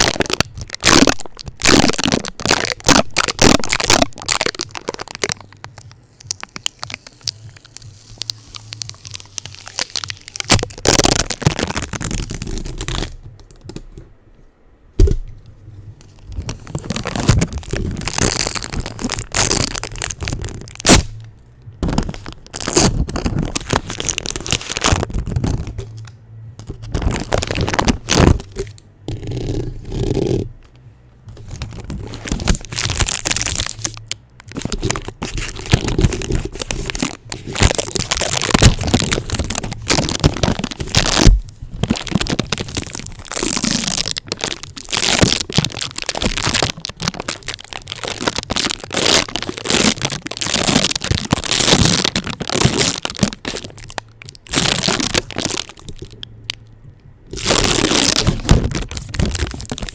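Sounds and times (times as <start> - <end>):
adhesive tape ripping on microphone: 0.0 - 13.2, 16.3 - 30.4, 31.3 - 56.2, 57.3 - 59.9.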